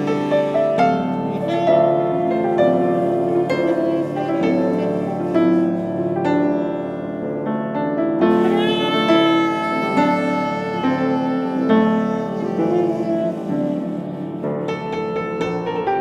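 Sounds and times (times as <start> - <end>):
piano notes and chords: 0.0 - 16.0
saxophone melody: 0.0 - 16.0.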